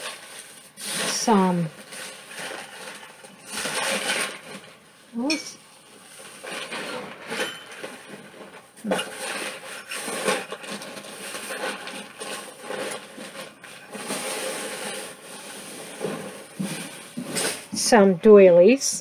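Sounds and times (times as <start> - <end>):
rummaging through a bag: 0.0 - 4.8, 6.0 - 17.7.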